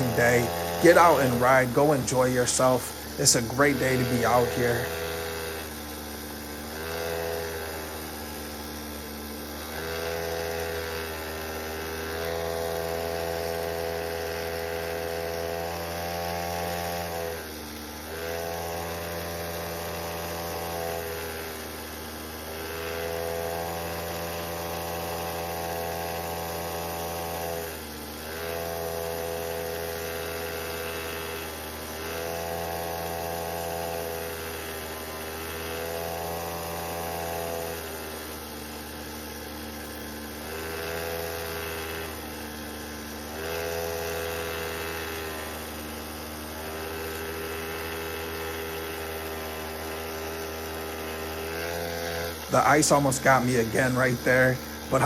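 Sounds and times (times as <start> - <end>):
mini bike motor revving: 0.0 - 55.0.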